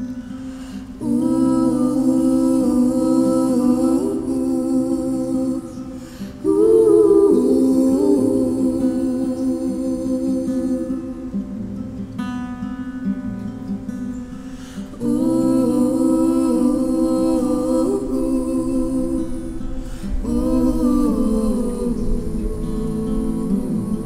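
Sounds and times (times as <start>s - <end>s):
two voices singing in harmony: 0.0s - 12.1s, 14.6s - 24.0s
acoustic guitar playing: 0.0s - 24.0s.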